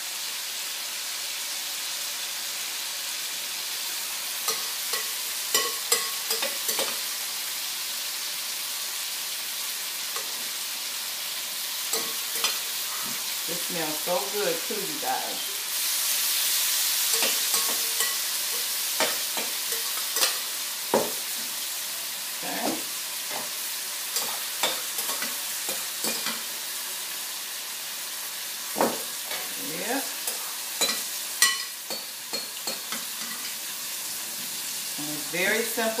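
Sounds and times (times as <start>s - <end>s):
beef sizzling in a wok: 0.0s - 36.0s.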